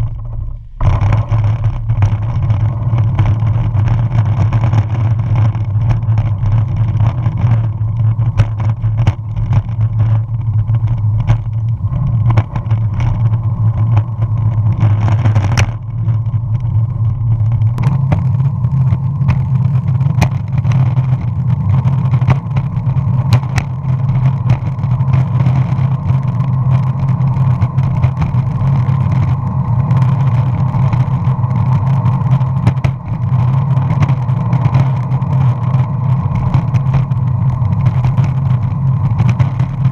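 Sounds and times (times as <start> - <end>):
clicks and knocks from bumps: 0.0 - 39.9
skateboard wheels rumbling on asphalt: 0.0 - 39.9.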